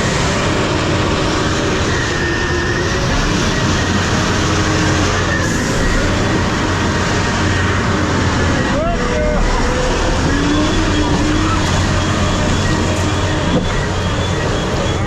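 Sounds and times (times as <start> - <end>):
heavy truck engine rumble: 0.0 - 15.0.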